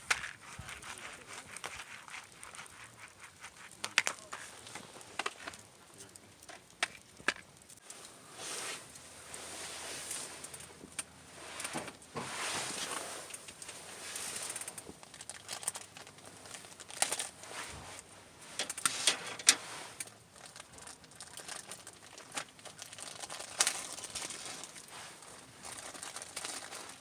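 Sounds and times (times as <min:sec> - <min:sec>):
rustling and crinkling handling: 0:00.0 - 0:27.0.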